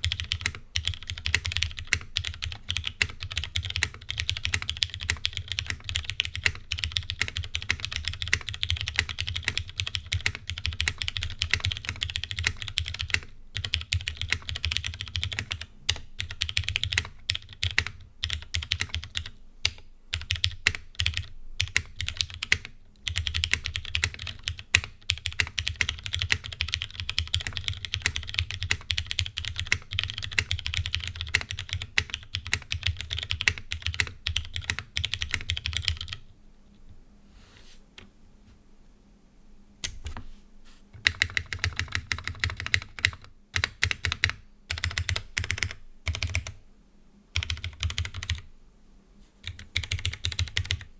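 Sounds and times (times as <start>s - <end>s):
mechanical keyboard typing: 0.0s - 36.2s, 41.0s - 46.6s, 47.4s - 48.4s, 49.4s - 50.9s.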